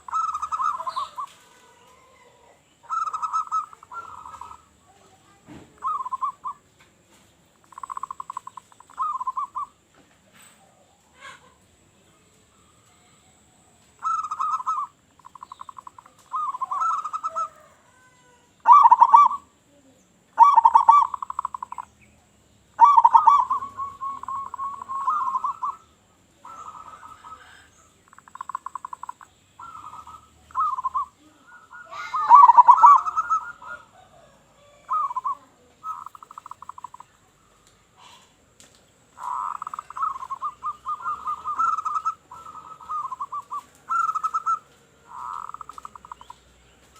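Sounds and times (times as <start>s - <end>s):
dove cooing: 0.0s - 6.7s, 7.6s - 9.8s, 14.0s - 19.5s, 20.4s - 21.9s, 22.7s - 37.1s, 39.1s - 46.4s.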